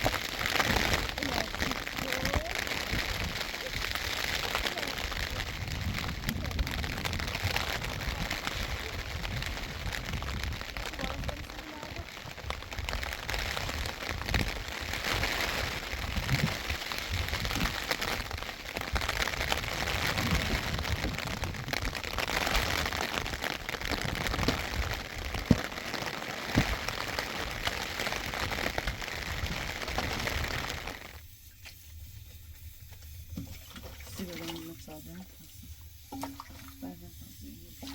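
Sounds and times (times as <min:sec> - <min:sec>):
raindrop taps: 0:00.0 - 0:37.9
steady rain hiss: 0:00.0 - 0:37.9.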